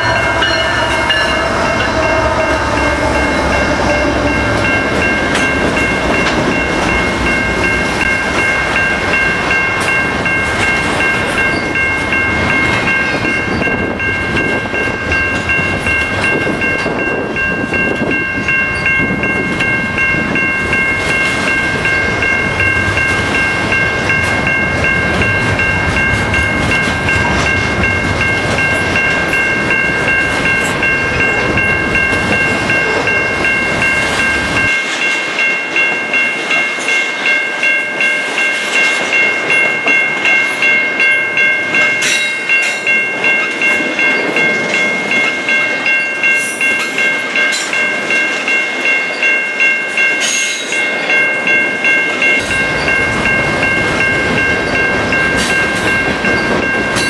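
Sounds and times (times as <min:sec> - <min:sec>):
locomotive engines: 0:00.0 - 0:57.0
steady high-pitched tone: 0:00.0 - 0:57.0.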